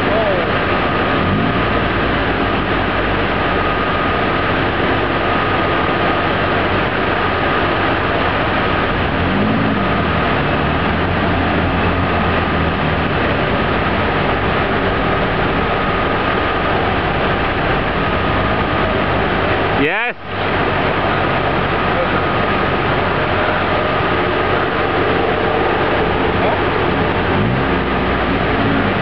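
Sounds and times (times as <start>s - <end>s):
car engine running under load: 0.0s - 29.0s
steady rushing noise: 0.0s - 29.0s.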